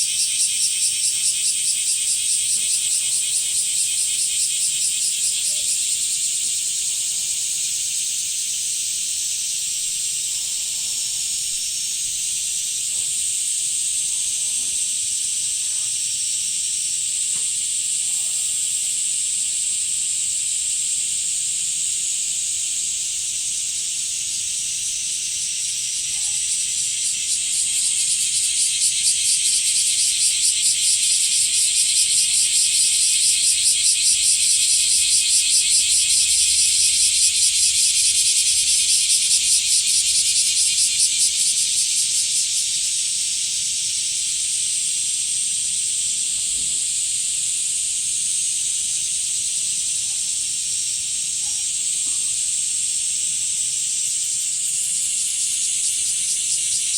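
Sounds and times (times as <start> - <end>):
cicadas buzzing: 0.0 - 56.9.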